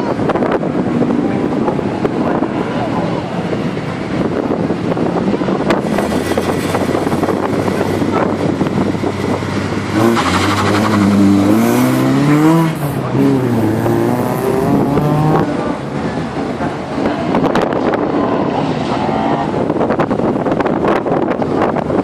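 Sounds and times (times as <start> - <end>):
wind on microphone: 0.0 - 22.0
race car engine revving: 0.2 - 21.9.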